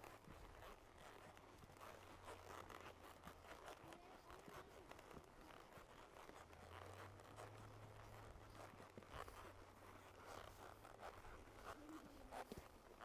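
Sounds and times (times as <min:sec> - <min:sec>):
horse hooves on trail: 0:00.0 - 0:13.0.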